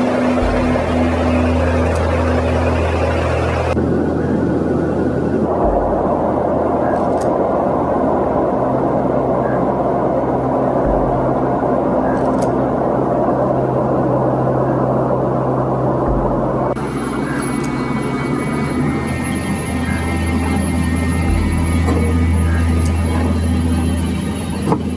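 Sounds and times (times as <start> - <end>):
aircraft engines droning: 0.0 - 24.9
faint high steady tones: 0.0 - 24.9.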